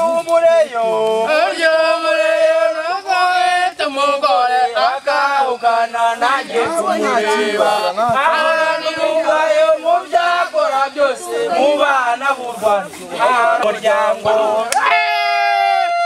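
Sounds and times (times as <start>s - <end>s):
voices singing a chant: 0.0s - 16.0s.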